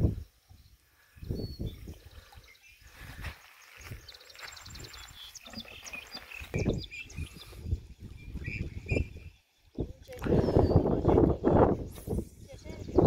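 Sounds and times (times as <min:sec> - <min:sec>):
small birds chirping: 0:00.0 - 0:13.0
wind buffeting microphone: 0:00.0 - 0:13.0.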